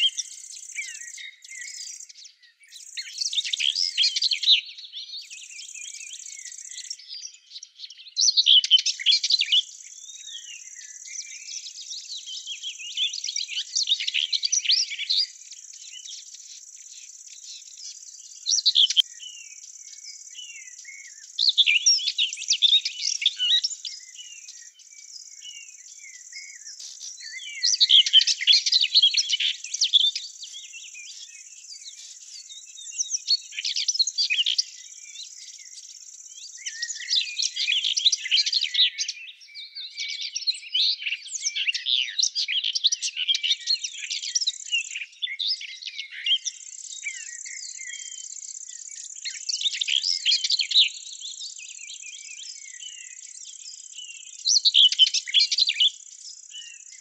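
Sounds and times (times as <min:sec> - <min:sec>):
songbirds twittering: 0:00.0 - 0:57.0.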